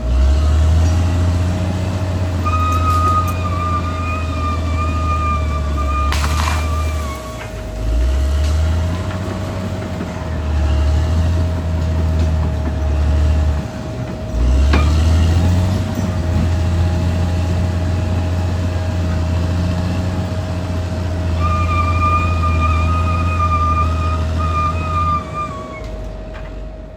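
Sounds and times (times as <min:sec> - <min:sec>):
bulldozer diesel engine under load: 0:00.0 - 0:26.9.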